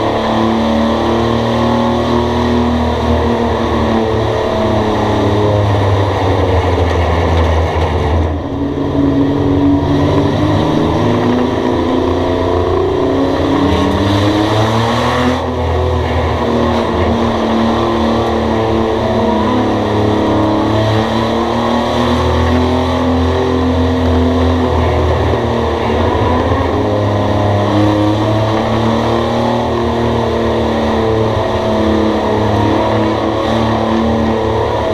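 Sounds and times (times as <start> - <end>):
race car engines: 0.0 - 34.9.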